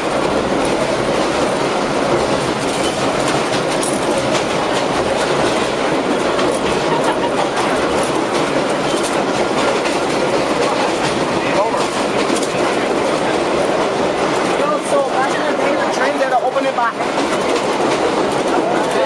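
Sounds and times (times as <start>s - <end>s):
subway car rumble: 0.0s - 19.0s
wheels clattering over rail joints: 0.0s - 19.0s.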